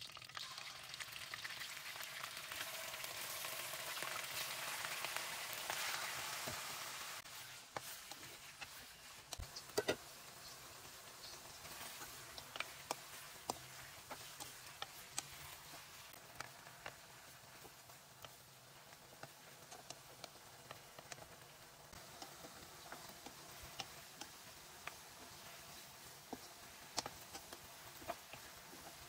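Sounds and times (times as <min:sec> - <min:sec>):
meat sizzling in oil: 0:00.0 - 0:29.0
oil crackles and pops: 0:00.0 - 0:29.0.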